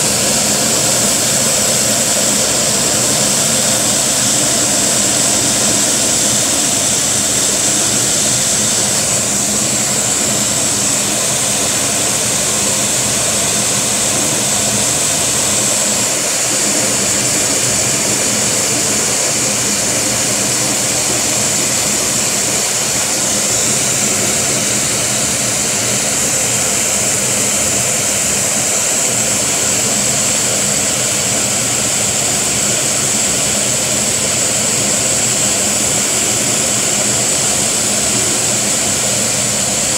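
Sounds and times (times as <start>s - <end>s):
vacuum cleaner suction rush: 0.0s - 39.9s.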